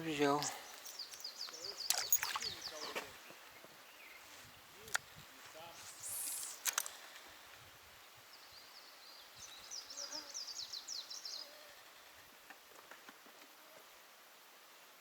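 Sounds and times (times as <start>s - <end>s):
songbird singing: 0.0s - 12.1s.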